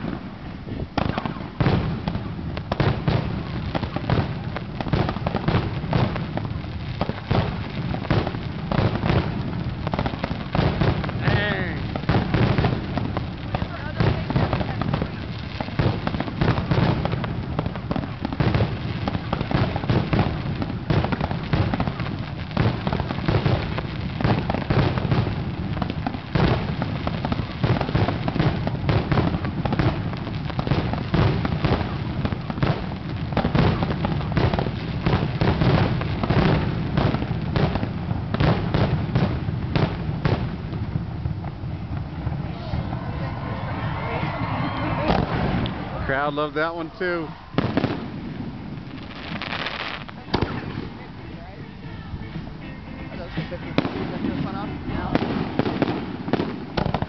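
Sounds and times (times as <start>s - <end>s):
fireworks bangs and bursts: 0.0s - 57.0s.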